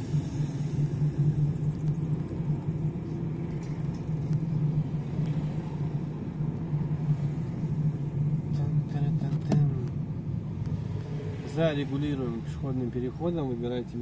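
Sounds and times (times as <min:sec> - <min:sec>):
car engine and tyres humming: 0:00.0 - 0:14.0
road noise rumble: 0:00.0 - 0:14.0.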